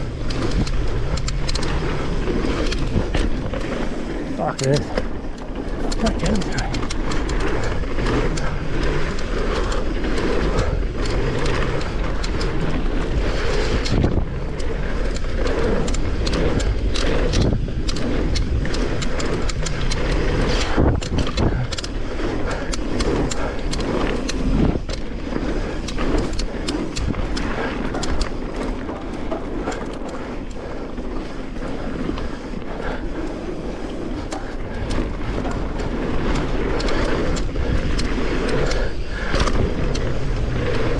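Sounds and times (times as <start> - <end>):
bike rattling over ground: 0.0 - 40.9
bike tyres rolling on dirt: 0.0 - 40.9.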